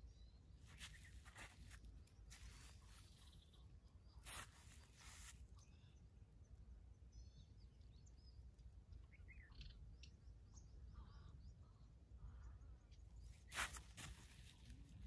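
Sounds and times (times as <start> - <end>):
faint bird chirps: 0.0 - 14.7.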